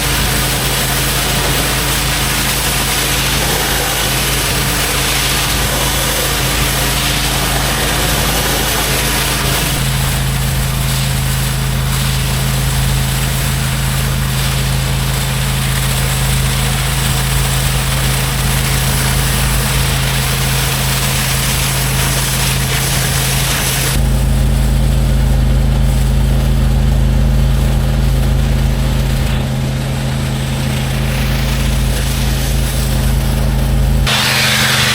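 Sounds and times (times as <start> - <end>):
water spray hissing: 0.0 - 24.0, 29.0 - 34.9
pressure washer engine running: 0.0 - 34.9.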